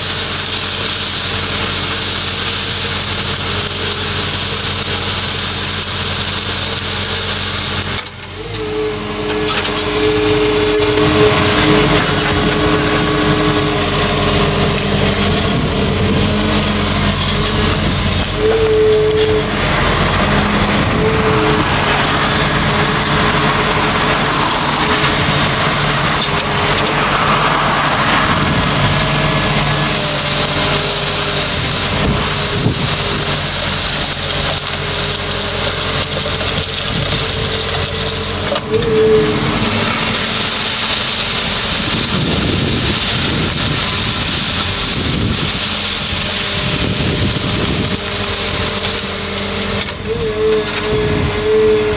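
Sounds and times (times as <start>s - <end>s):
excavator engine running: 0.0s - 51.9s
machine whine: 0.0s - 51.9s
rotating brush sweeping soil: 0.0s - 51.9s.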